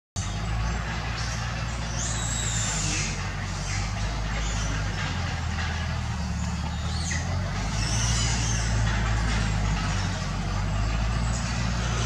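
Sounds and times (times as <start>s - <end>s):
vehicle engine humming: 0.2s - 12.0s.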